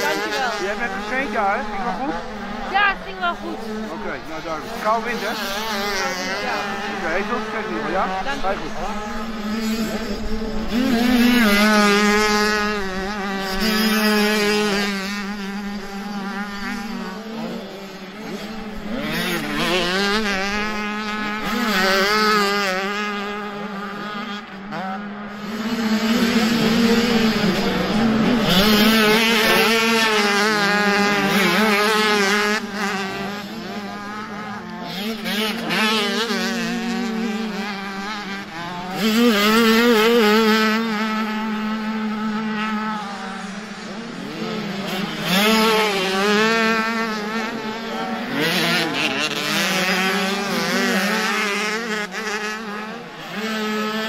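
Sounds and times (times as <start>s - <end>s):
motocross bikes revving: 0.0s - 54.0s.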